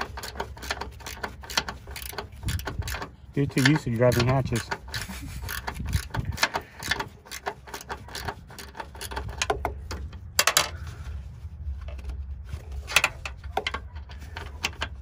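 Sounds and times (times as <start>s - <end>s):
tools and metal parts clattering: 0.0s - 10.8s, 12.0s - 15.0s.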